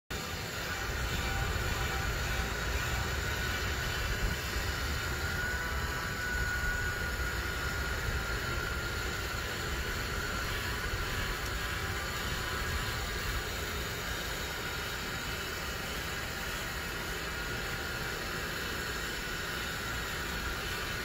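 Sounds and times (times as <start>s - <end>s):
faint high whine: 0.1s - 21.0s
rotisserie motor rumble: 0.1s - 21.0s.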